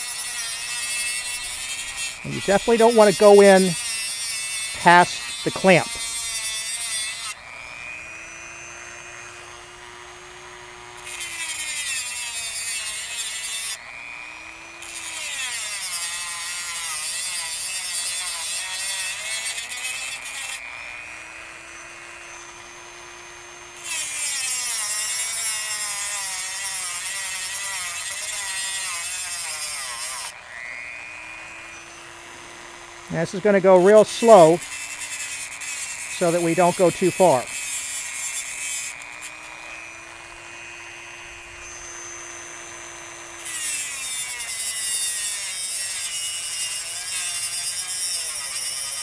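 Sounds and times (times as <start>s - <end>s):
rotary tool grinding metal: 0.0s - 49.0s
rotary tool motor whine: 0.0s - 49.0s.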